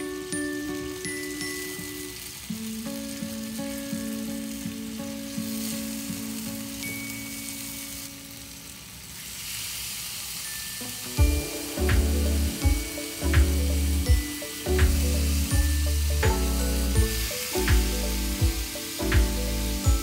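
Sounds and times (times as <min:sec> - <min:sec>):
soft background music: 0:00.0 - 0:08.9, 0:10.5 - 0:20.0
food sizzling in hot oil: 0:00.0 - 0:20.0.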